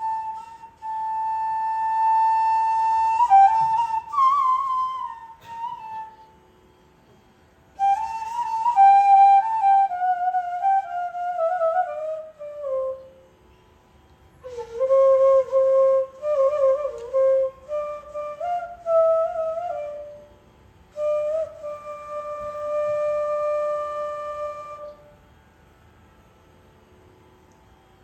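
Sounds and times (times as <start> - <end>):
solo flute melody: 0.0 - 6.6, 7.7 - 13.4, 14.4 - 25.2.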